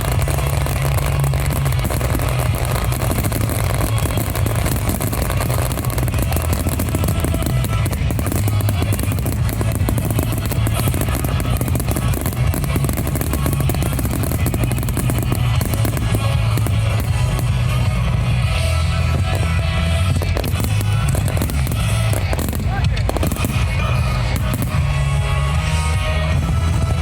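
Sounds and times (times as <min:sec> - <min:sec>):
driving drum kit: 0:00.0 - 0:27.0
loud rock music: 0:00.0 - 0:27.0.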